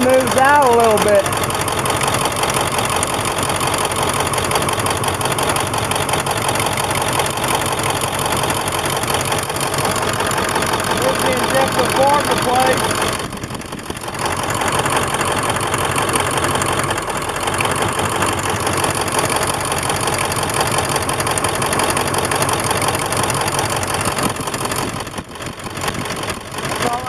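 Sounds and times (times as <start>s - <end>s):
diesel engine idling roughly: 0.0s - 27.0s.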